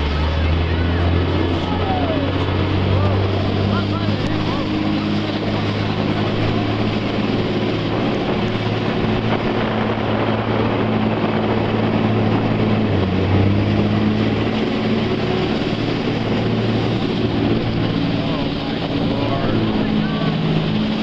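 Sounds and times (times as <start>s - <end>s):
churning whitewater: 0.0s - 21.0s
jet boat engine running: 0.0s - 21.0s
wind: 0.0s - 21.0s.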